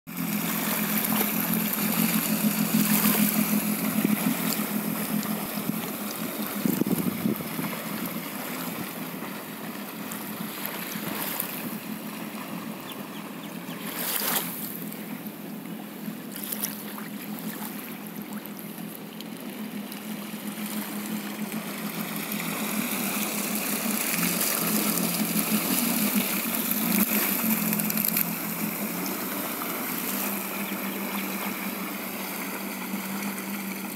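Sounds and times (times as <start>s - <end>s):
jet ski engine humming: 0.1s - 33.9s
water churning: 0.1s - 33.9s.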